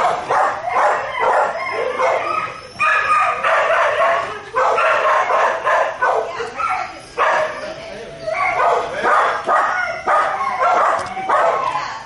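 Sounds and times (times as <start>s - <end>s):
dog barking: 0.0s - 7.6s, 8.4s - 11.8s.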